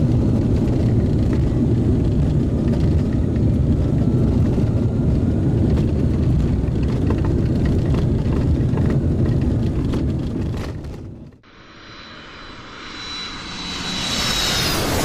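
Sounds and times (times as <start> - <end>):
turboprop airliner engines rumbling: 0.0 - 15.0.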